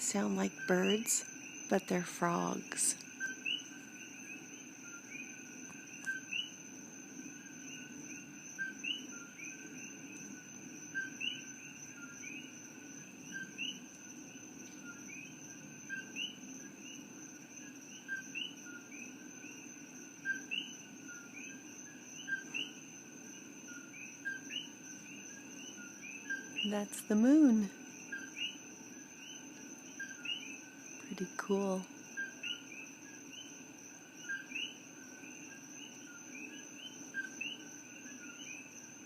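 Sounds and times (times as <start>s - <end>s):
frogs calling: 0.0s - 39.0s.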